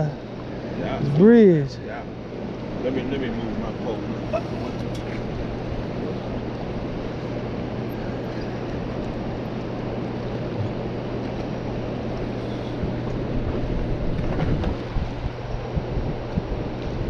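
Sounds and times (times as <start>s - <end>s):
low hum: 0.0s - 17.0s
turbulent water roaring: 0.0s - 17.0s.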